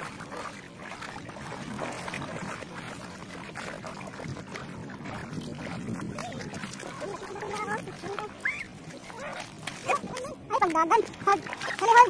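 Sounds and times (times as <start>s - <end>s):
feet splashing through water: 0.0s - 12.0s.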